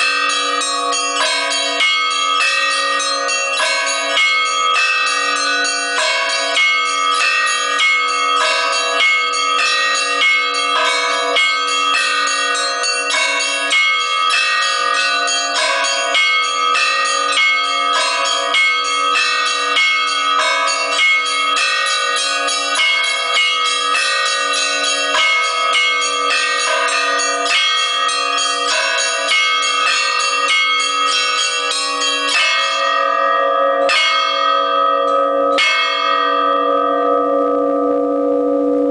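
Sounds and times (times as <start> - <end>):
small bells struck rapidly: 0.0 - 37.2
large bells ringing: 0.0 - 38.9.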